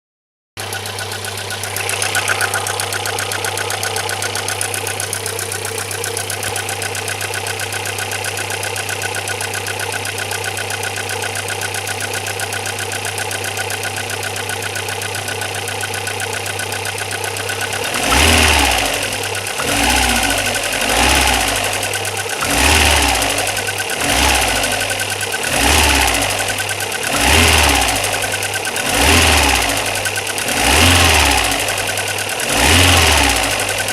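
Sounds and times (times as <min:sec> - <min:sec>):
car engine idling and revving: 0:00.6 - 0:33.9.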